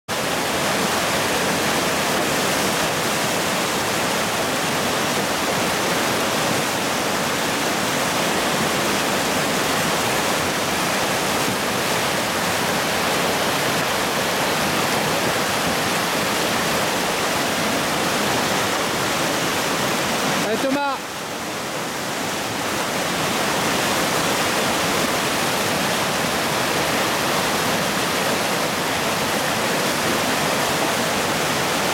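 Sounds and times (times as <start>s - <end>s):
whitewater rapids rushing: 0.1s - 31.9s.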